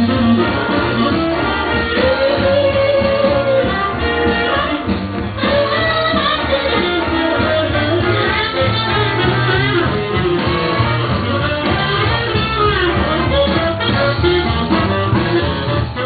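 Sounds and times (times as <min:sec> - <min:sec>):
background music with guitar: 0:00.0 - 0:16.0.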